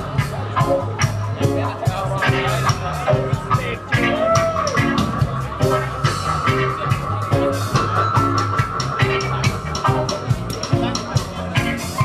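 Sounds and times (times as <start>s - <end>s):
drums keeping a steady beat: 0.0s - 12.0s
live band playing: 0.0s - 12.0s.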